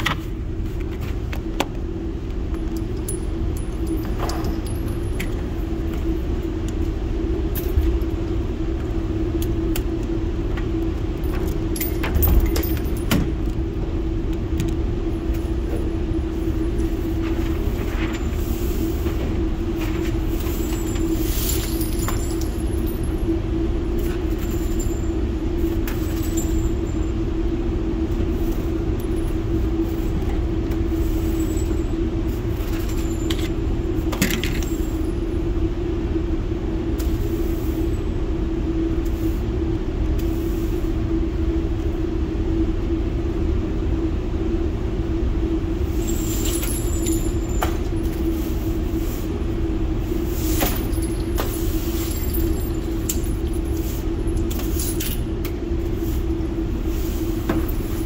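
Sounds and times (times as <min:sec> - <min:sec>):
ventilation fans humming: 0:00.0 - 0:58.0.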